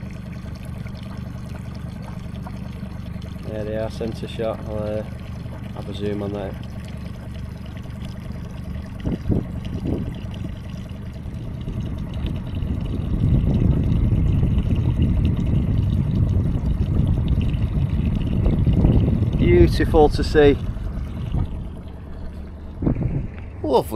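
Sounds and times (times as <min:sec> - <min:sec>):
low rumble: 0:00.0 - 0:23.9
water lapping against boat hull: 0:00.0 - 0:23.9.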